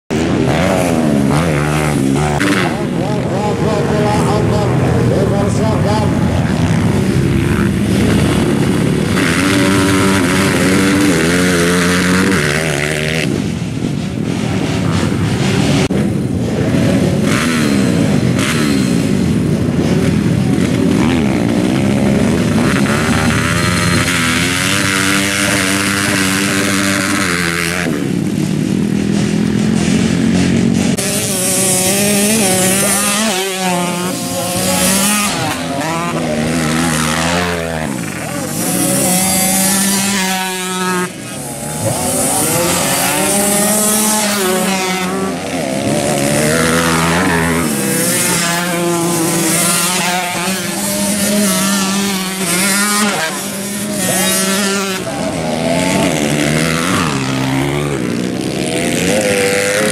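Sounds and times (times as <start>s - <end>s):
dirt bikes revving: 0.1s - 59.9s.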